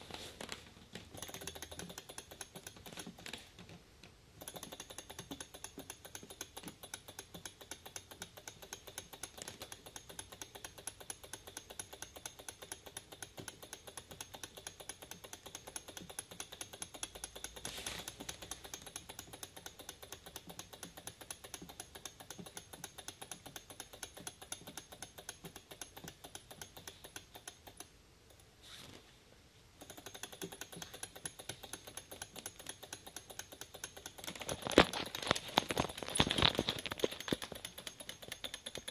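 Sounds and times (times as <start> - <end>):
stirling engine model clicking: 1.0 - 3.6, 4.4 - 28.4, 29.8 - 38.9.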